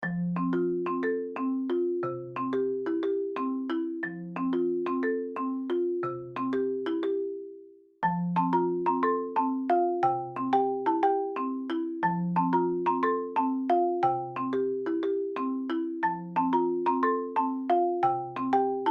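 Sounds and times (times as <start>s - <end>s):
mallet percussion tune: 0.0s - 18.9s.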